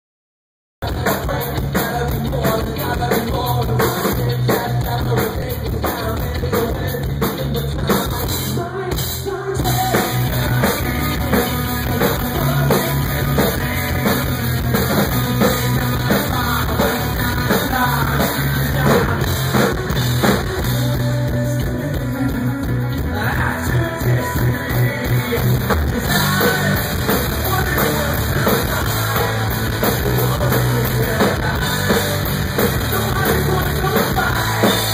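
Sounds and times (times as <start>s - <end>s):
bass guitar: 0.8s - 34.9s
drum kit: 0.8s - 34.9s
electric guitar: 0.8s - 34.9s.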